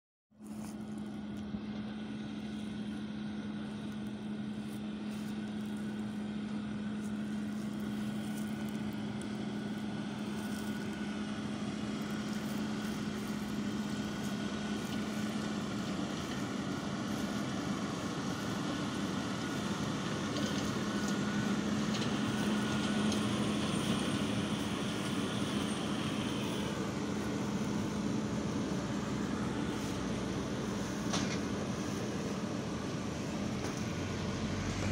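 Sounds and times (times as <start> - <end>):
tractor engine drone: 0.3 - 34.9.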